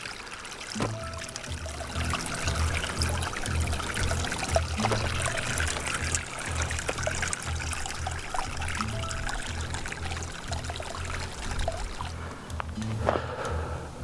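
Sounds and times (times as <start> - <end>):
small waterfall splashing: 0.0 - 13.3.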